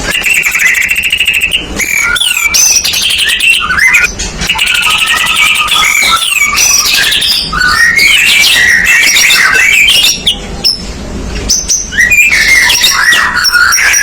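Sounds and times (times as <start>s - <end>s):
songbird whistling: 0.0s - 14.0s.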